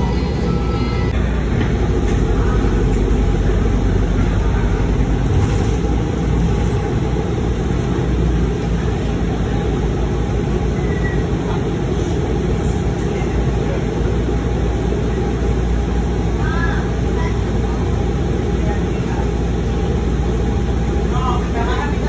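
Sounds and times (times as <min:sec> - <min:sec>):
bus drivetrain drone: 0:00.0 - 0:22.0
road noise: 0:00.0 - 0:22.0.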